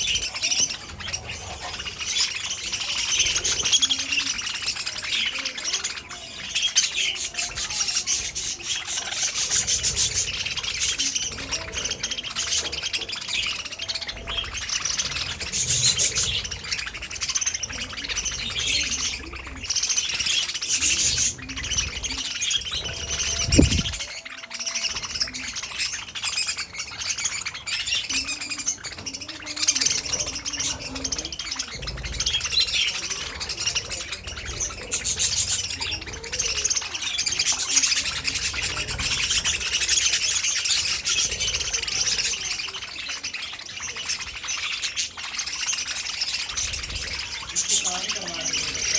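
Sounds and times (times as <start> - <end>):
budgerigars chirping and warbling: 0.0 - 48.9.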